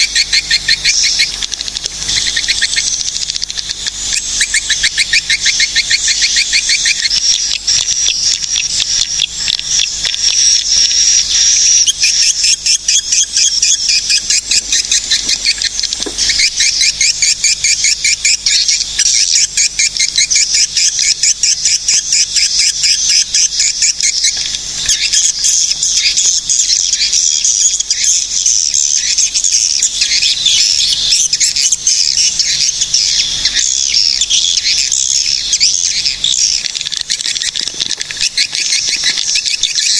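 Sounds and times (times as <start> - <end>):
swiftlets chirping and twittering: 0.0 - 39.9.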